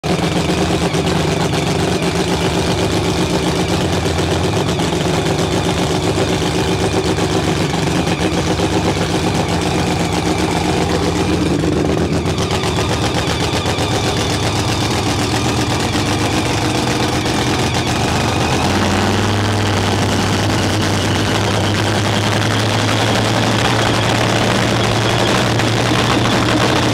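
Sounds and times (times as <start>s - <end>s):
race car engine idling: 0.0s - 26.9s.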